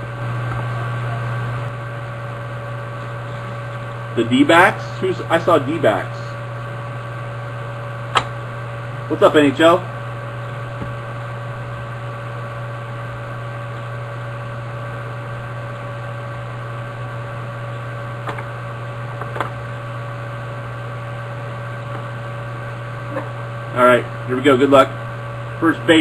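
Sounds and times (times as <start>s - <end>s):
electrical hum with hiss: 0.0s - 26.0s.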